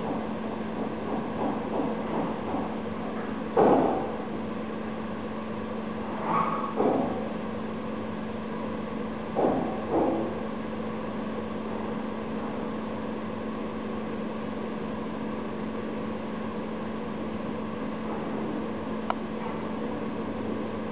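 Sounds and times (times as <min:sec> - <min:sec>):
mechanical hum: 0:00.0 - 0:20.9.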